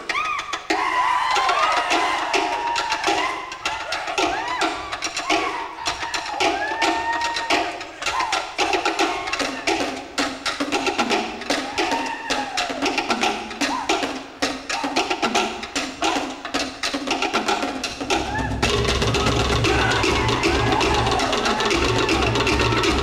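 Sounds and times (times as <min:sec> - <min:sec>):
slit log drums: 0:00.0 - 0:23.0.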